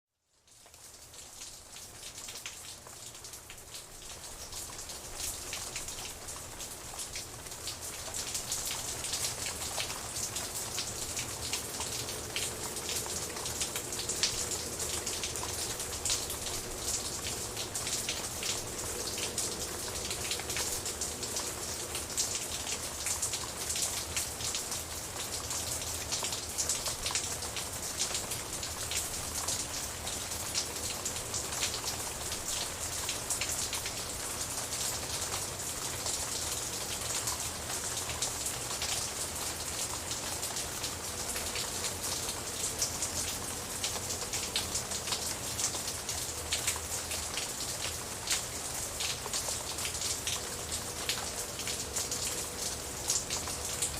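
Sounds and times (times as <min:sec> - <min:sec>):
rain drops pattering: 0:00.1 - 0:53.9.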